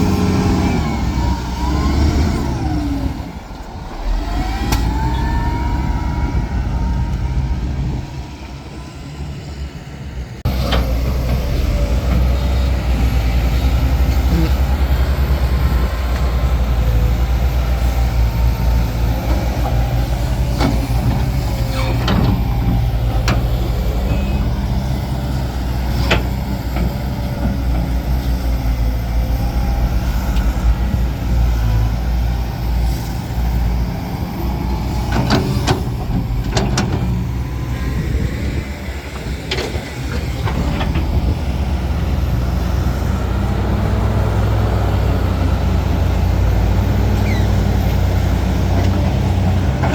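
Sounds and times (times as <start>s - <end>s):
heavy diesel machinery running: 0.0s - 49.9s.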